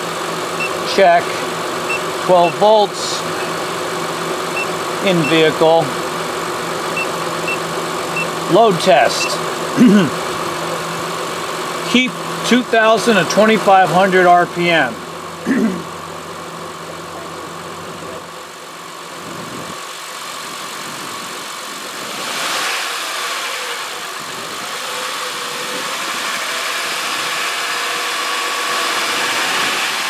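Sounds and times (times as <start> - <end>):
car engine revving to fast idle: 0.0 - 30.0.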